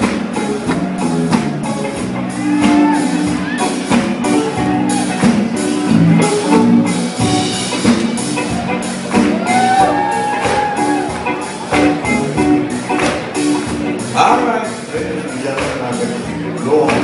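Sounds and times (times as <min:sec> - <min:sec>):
bending lead guitar notes: 0:00.0 - 0:16.6
drum kit beats: 0:00.0 - 0:17.0
live blues band playing: 0:00.0 - 0:17.0.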